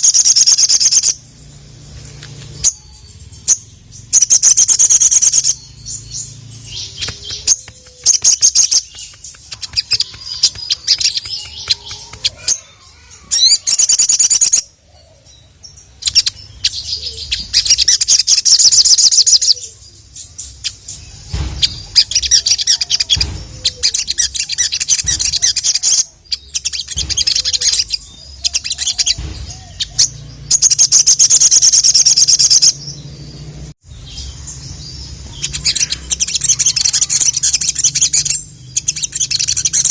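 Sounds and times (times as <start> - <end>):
bird singing high trilling phrases: 0.0 - 39.9.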